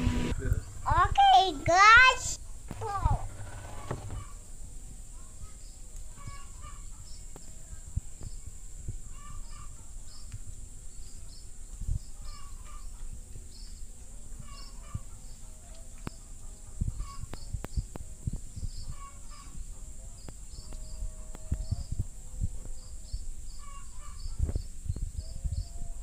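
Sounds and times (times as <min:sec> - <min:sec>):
birds calling: 0:00.0 - 0:25.9.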